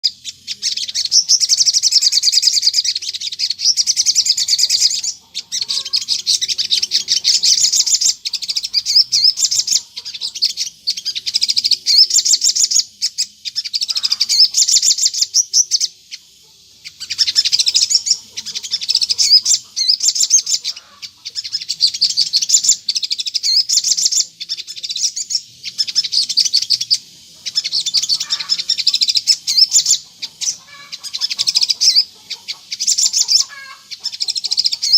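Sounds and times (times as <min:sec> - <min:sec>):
songbird chattering song: 0:00.0 - 0:34.9.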